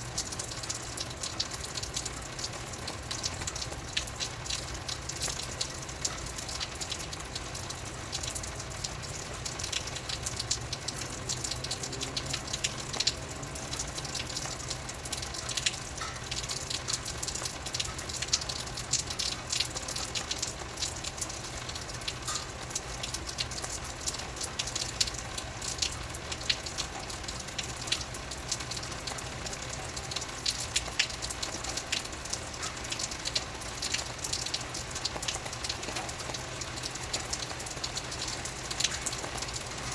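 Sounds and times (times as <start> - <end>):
rain hiss with dripping ticks: 0.0 - 39.9.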